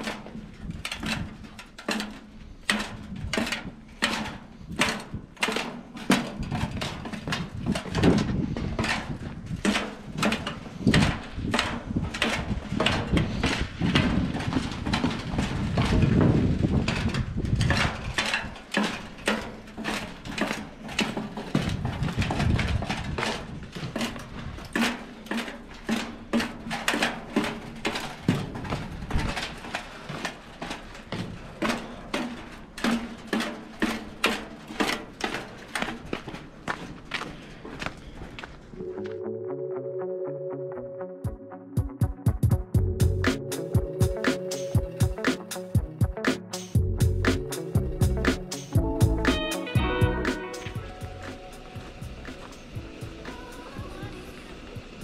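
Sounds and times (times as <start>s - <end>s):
boots on metal stairs: 0.0s - 38.8s, 41.3s - 55.0s.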